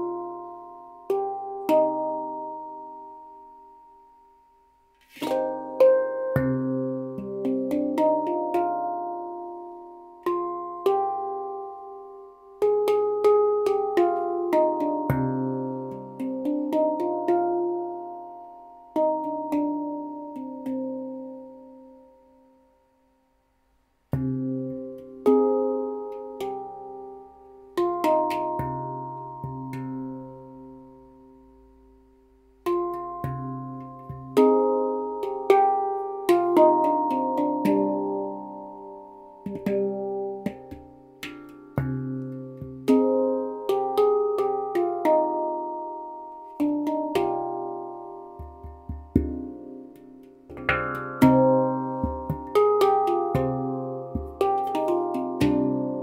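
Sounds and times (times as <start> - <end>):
handpan melody: 0.0 - 22.9, 24.1 - 56.0.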